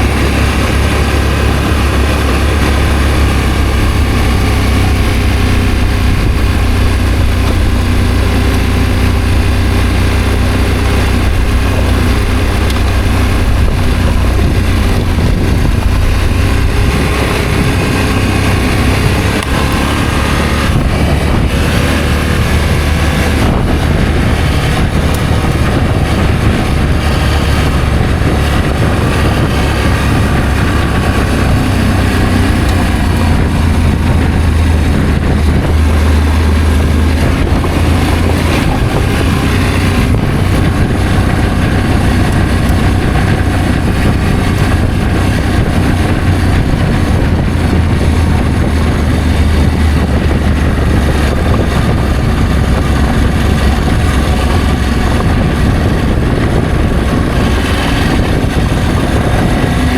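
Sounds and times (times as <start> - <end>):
motorcycle engine droning: 0.0 - 59.9
road and wind noise: 0.0 - 59.9.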